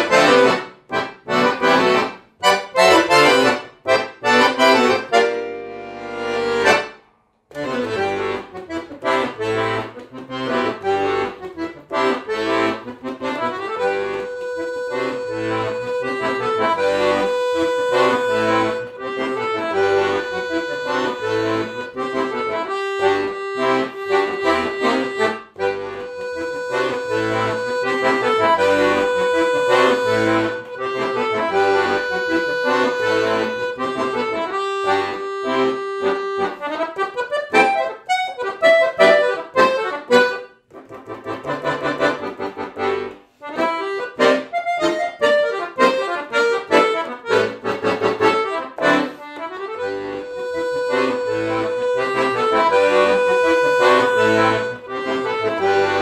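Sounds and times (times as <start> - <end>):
solo piano accordion: 0.0 - 56.0.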